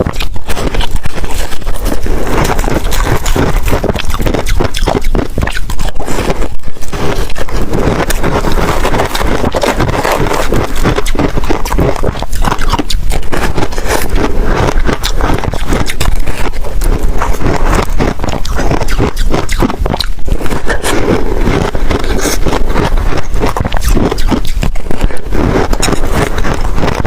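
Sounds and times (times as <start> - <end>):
chewing and crunching ice: 0.0 - 27.0.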